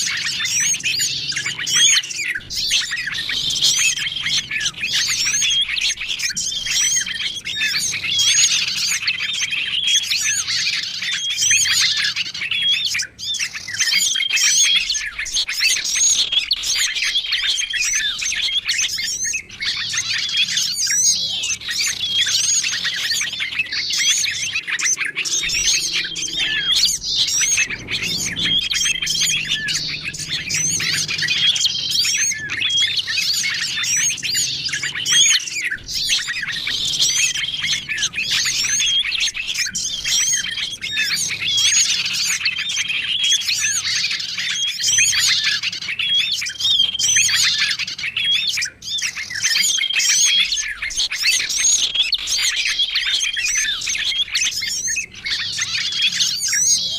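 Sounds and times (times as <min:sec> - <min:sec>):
songbirds chirping and twittering: 0:00.0 - 0:56.9.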